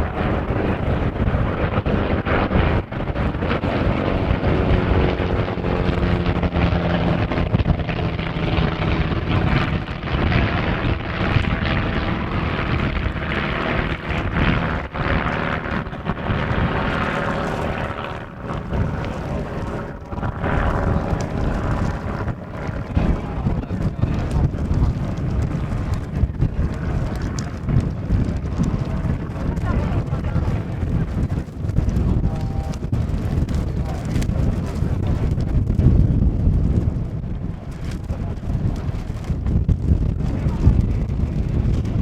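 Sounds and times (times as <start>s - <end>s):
propeller plane engines: 0.0s - 42.0s
wind buffeting microphone: 0.0s - 42.0s.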